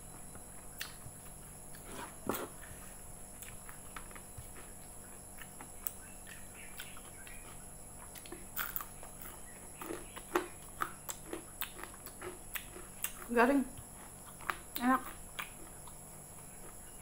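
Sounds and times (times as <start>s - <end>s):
chewing crispy fritter: 0.6s - 17.0s.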